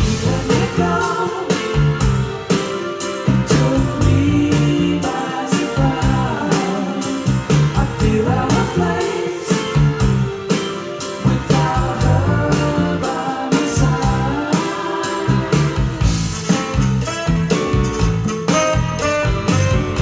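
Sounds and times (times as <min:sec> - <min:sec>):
song over loudspeakers: 0:00.0 - 0:20.0.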